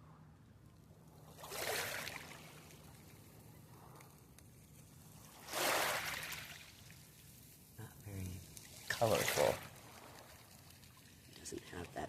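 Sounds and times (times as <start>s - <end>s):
shallow water washing: 1.3s - 4.0s, 5.0s - 12.0s.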